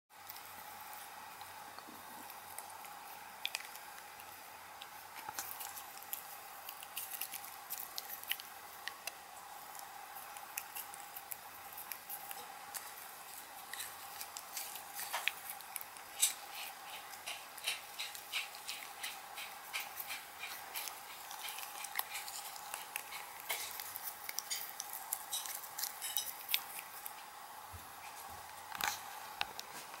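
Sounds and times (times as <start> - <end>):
faint steady hum: 0.2 - 30.0
teeth clicking on toothbrush: 2.3 - 13.0, 13.6 - 27.2.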